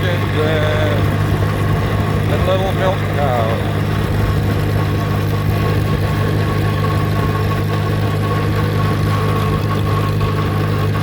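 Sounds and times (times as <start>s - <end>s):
thin steady high whine: 0.0s - 11.0s
tractor engine running: 0.0s - 11.0s.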